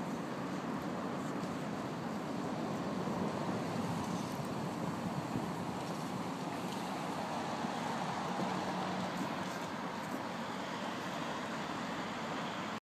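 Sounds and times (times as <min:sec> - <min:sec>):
constant low hum: 0:00.0 - 0:12.3
street traffic noise: 0:00.0 - 0:12.8.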